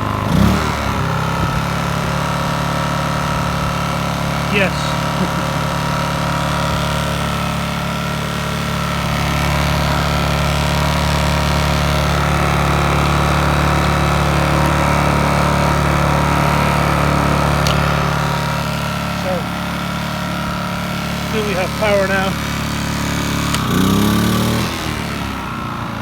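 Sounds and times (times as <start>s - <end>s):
generator running: 0.0s - 26.0s.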